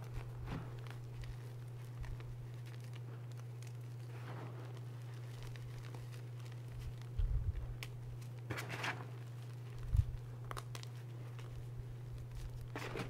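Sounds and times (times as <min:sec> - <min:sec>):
hands crunching chalk: 0:00.0 - 0:13.0
low hum: 0:00.0 - 0:13.0.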